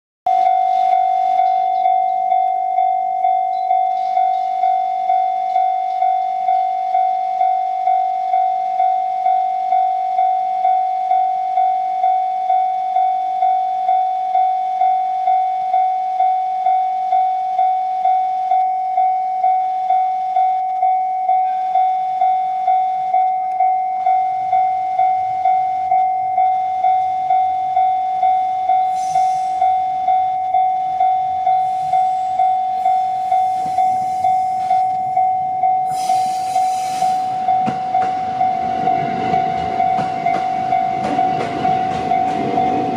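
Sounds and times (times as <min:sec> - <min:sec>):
electric train rumble: 0:00.3 - 0:42.9
level crossing alarm ding: 0:00.3 - 0:42.9.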